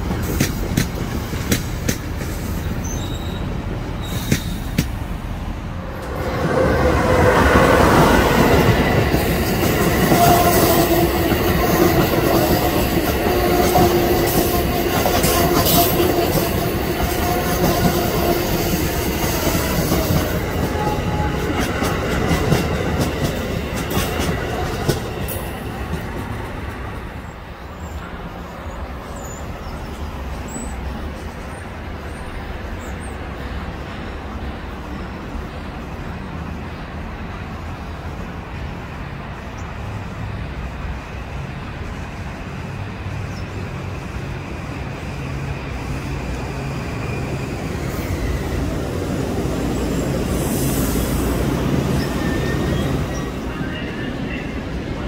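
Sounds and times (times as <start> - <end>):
electric train rumbling past: 0.0 - 55.0.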